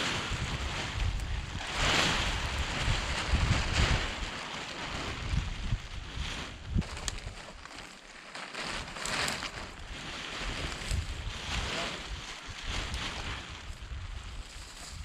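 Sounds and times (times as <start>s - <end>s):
wind gusting on microphone: 0.0s - 7.4s, 9.0s - 15.0s.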